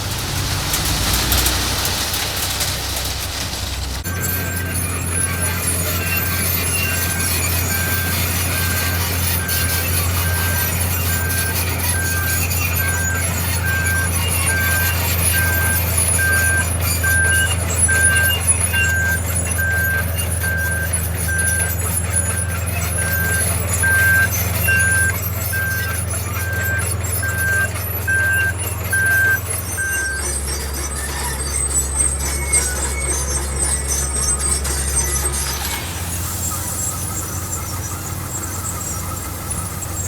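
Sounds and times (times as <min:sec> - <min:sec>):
diesel engine running: 0:00.0 - 0:40.0
reversing alarm beeping: 0:04.1 - 0:40.0.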